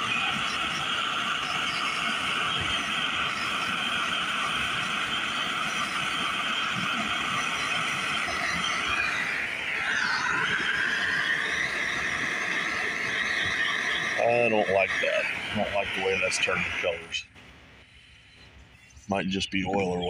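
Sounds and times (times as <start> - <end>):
gas torch flame hissing: 0.0 - 18.3.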